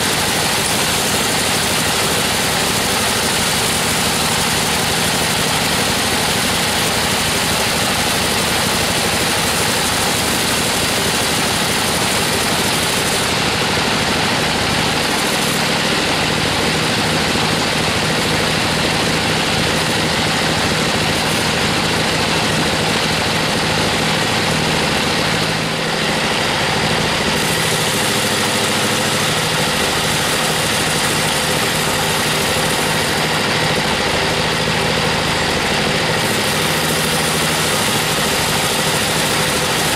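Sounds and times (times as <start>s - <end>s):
band saw blade cutting log: 0.0s - 39.9s
sawmill engine: 0.0s - 39.9s.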